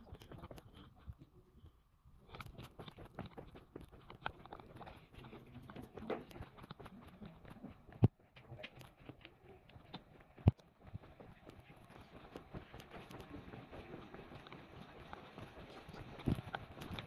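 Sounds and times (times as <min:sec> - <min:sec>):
footsteps on paved trail: 0:02.6 - 0:17.0.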